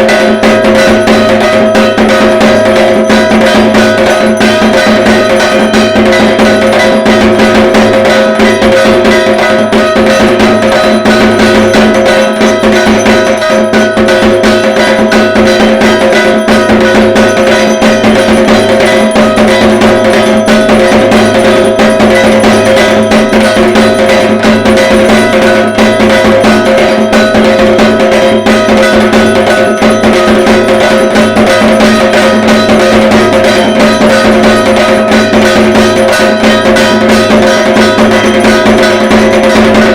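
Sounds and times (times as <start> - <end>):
barrel drums beating fast: 0.0 - 39.9
ringing metallic tone: 0.0 - 39.9.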